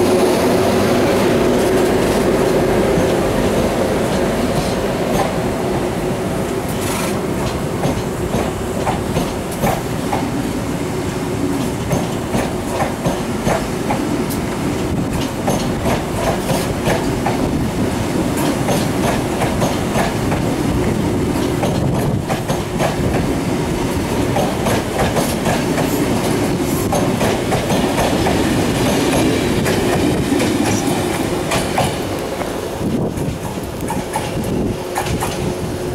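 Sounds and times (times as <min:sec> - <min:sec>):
steady train rumble: 0:00.0 - 0:35.9
train wheels clicking over rail joints: 0:01.5 - 0:05.4, 0:06.6 - 0:10.4, 0:11.5 - 0:35.6.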